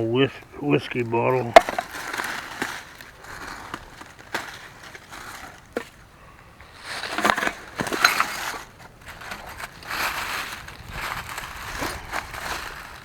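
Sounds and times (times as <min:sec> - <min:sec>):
dirt and leaves crunching: 0:00.0 - 0:13.0.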